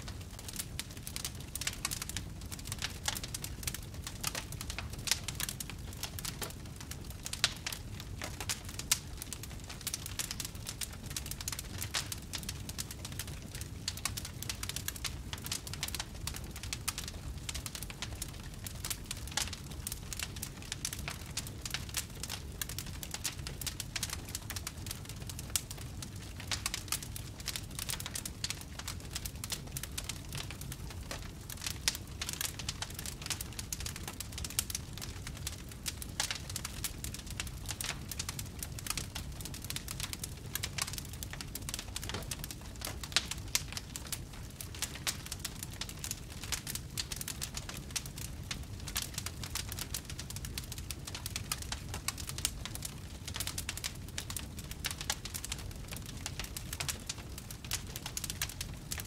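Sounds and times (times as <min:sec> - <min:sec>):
fire crackling: 0:00.0 - 0:59.0
fire flames rumbling: 0:00.0 - 0:59.0.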